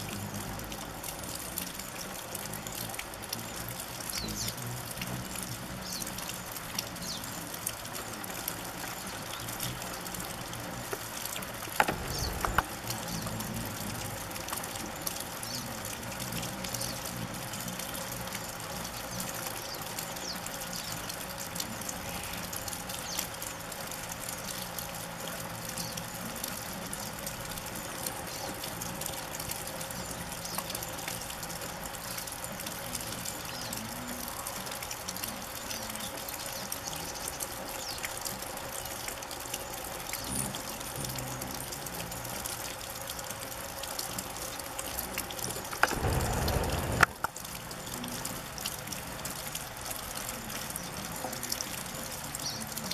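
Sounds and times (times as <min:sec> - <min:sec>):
hummingbird wings buzzing: 0:00.0 - 0:52.9
hummingbirds chipping: 0:00.0 - 0:52.9.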